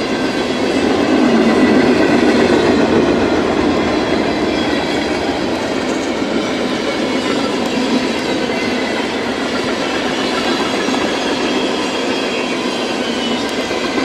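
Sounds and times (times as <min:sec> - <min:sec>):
high wheel squeal: 0:00.0 - 0:14.0
train wheels clattering on rails: 0:00.0 - 0:14.0.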